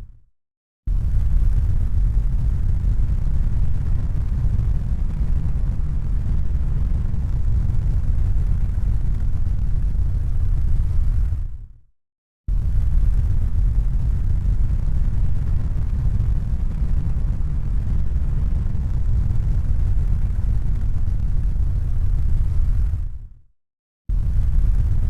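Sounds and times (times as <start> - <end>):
low rumbling noise: 0.9 - 11.6, 12.5 - 23.3, 24.1 - 25.0.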